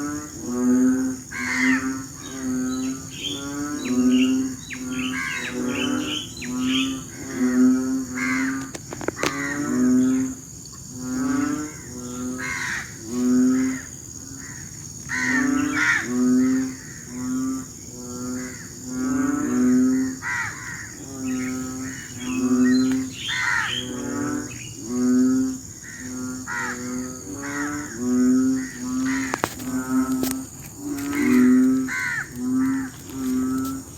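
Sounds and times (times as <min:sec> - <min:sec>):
chorus of frogs croaking: 0:00.0 - 0:33.9.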